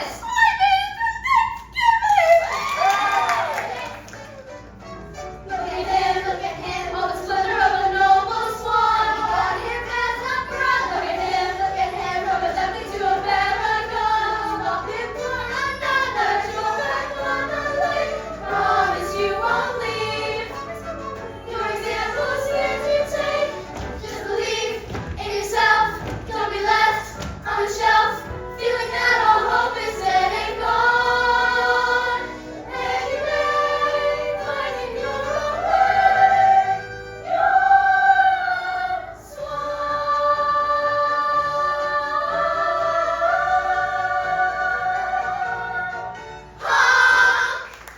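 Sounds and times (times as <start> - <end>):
musical accompaniment: 2.5 - 47.9
voices singing together: 5.4 - 47.9.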